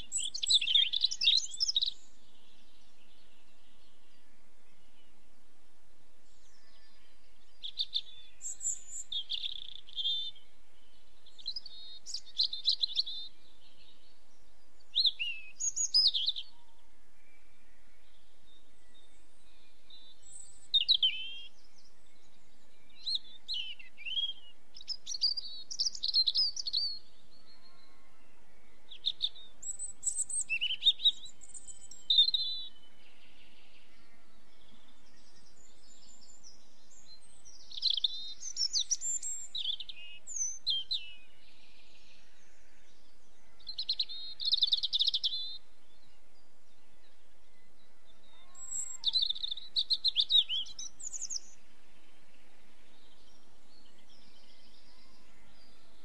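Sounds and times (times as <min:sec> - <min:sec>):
songbirds twittering: 0:00.0 - 0:56.0.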